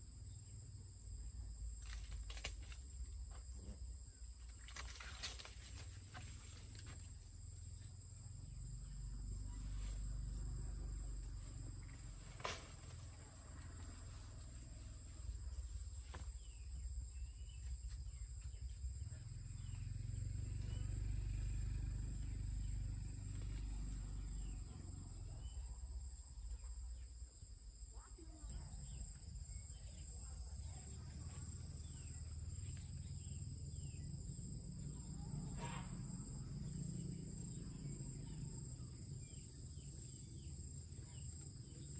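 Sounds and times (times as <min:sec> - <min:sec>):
insects singing: 0:00.0 - 0:41.9.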